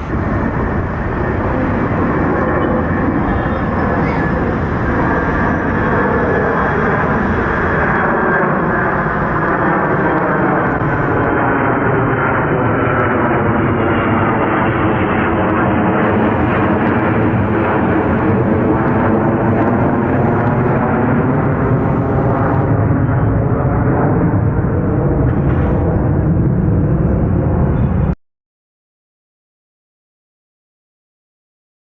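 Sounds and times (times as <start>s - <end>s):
jet engines roaring: 0.0s - 28.2s.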